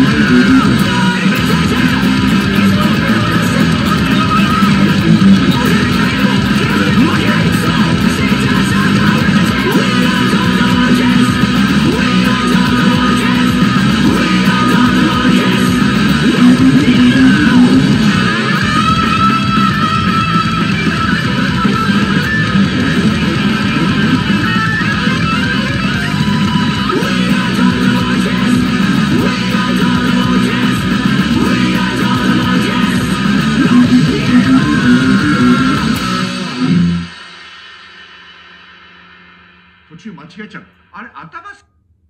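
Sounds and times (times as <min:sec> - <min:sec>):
electric guitar strummed hard: 0:00.0 - 0:39.4
punk rock band recording: 0:00.0 - 0:41.5.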